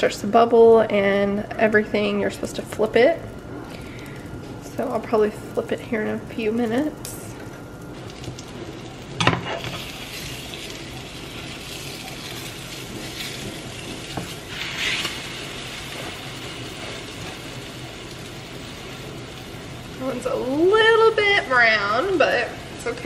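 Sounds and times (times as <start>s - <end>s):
batter sizzling in a pan: 1.9s - 23.0s.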